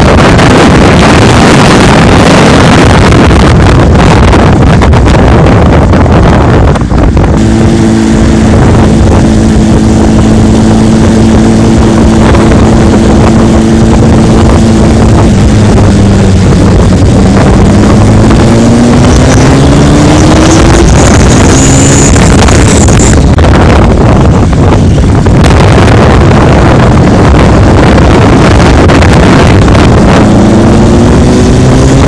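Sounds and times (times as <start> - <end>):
motorcycle engine running: 0.0 - 32.0
wind buffeting microphone: 0.0 - 32.0.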